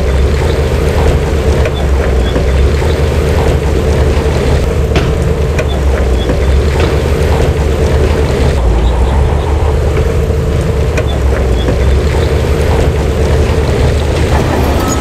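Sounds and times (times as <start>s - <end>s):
clanks and rattles: 0.0s - 15.0s
diesel engine running under load: 0.0s - 15.0s.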